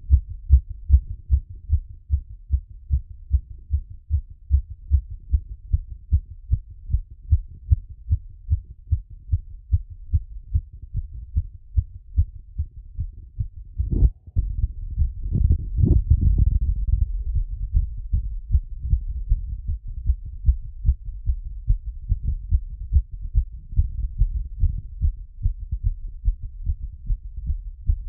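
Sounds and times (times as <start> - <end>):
fast heartbeat through stethoscope: 0.0 - 28.0.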